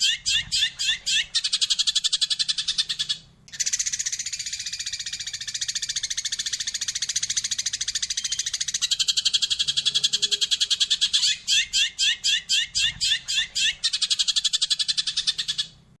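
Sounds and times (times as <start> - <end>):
sparrow trilling chirps: 0.0 - 15.8.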